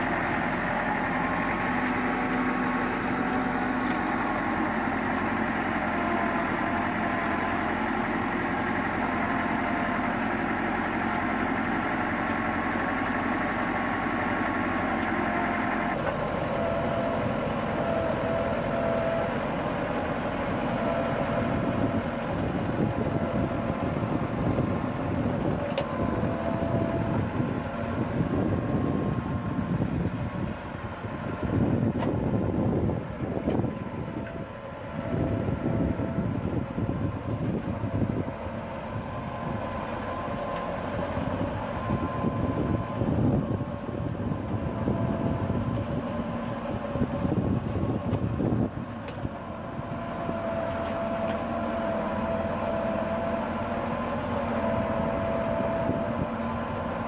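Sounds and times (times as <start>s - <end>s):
backhoe digging sandy soil: 0.0s - 57.0s
tractor diesel engine running: 0.0s - 57.0s.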